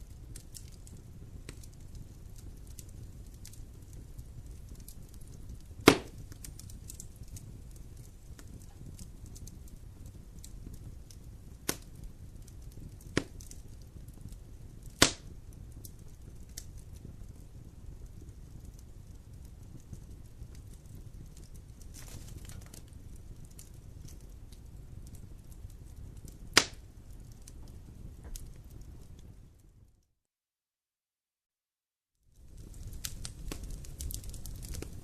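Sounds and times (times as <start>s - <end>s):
burning wood popping: 0.0s - 29.8s, 32.3s - 35.0s
campfire rumbling: 0.0s - 30.0s, 32.3s - 35.0s
faint continuous crackling: 0.0s - 30.1s, 32.2s - 35.0s.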